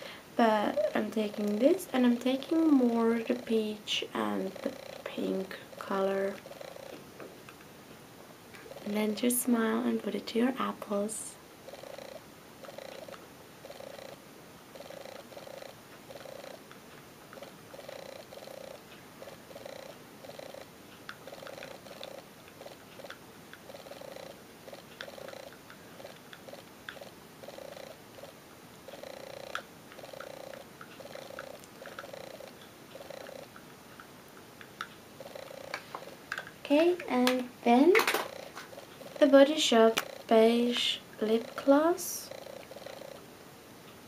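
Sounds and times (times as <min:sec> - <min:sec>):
cat purring: 0:00.0 - 0:07.4, 0:08.5 - 0:43.3.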